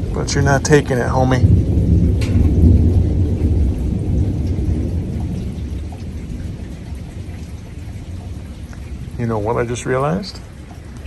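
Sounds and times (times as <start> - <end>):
rain falling: 0.0 - 11.0
thunder rumbling: 0.0 - 11.0.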